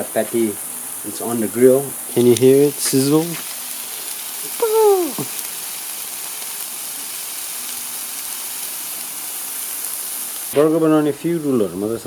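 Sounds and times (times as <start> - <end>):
burger patties sizzling on a grill: 0.0 - 12.0.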